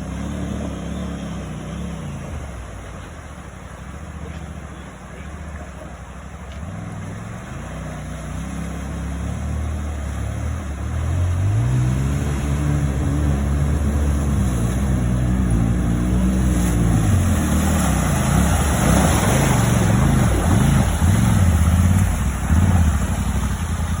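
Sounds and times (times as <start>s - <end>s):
vehicle engine revving: 0.0s - 3.0s, 6.5s - 24.0s
water splashing: 0.0s - 24.0s.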